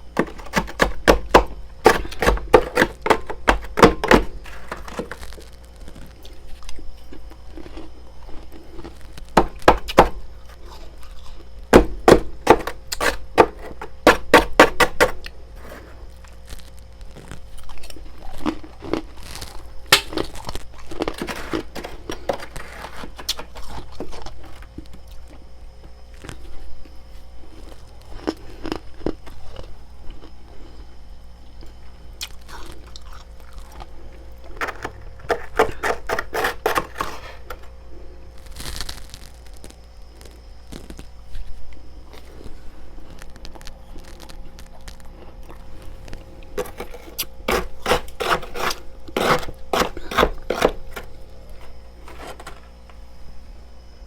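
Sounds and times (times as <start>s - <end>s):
crunching ice: 0.0s - 30.9s, 31.5s - 37.8s, 38.4s - 53.0s.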